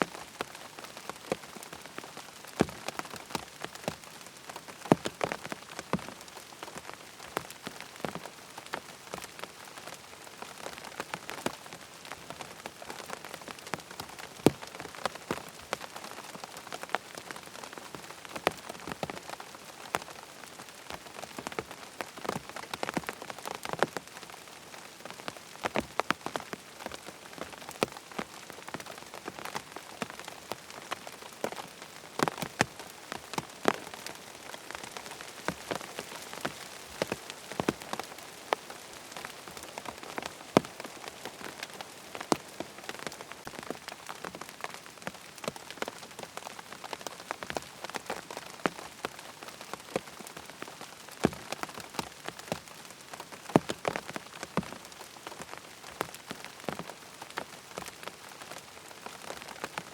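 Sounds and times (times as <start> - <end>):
rain pattering on a tent: 0.0 - 59.9.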